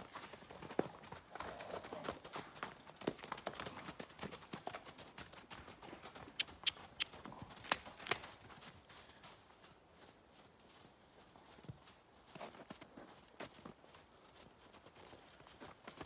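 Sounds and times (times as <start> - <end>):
horse hooves trotting on snow: 0.0 - 16.0.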